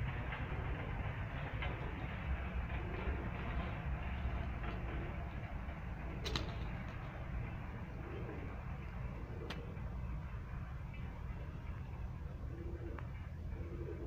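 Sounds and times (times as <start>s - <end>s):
low rumble and hiss: 0.0s - 14.0s
pigeons cooing softly: 0.0s - 14.0s.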